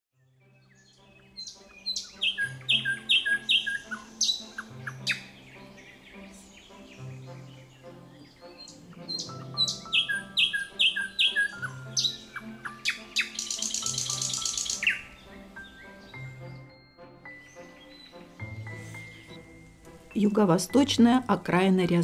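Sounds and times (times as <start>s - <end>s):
soft background music: 0.2s - 22.0s
songbird singing: 0.2s - 22.0s.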